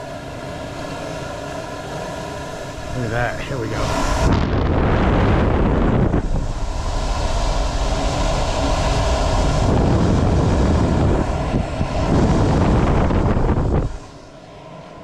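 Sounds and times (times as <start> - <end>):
wind buffeting microphone: 0.0 - 14.3
air rushing from a vent: 0.0 - 15.0.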